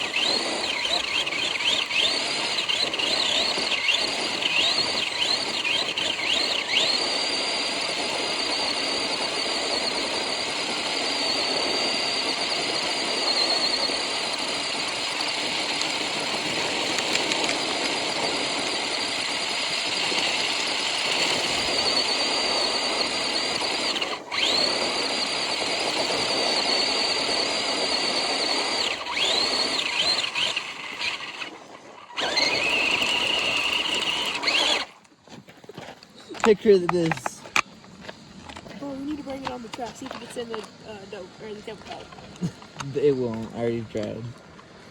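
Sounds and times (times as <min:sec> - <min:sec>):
toy car motor whining: 0:00.0 - 0:35.1, 0:35.7 - 0:44.2.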